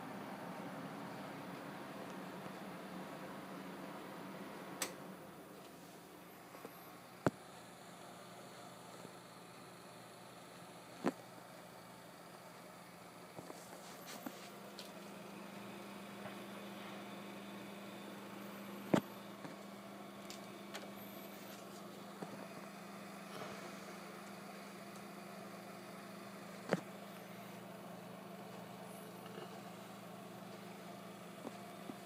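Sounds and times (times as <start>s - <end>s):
computer fans humming: 0.0s - 32.0s.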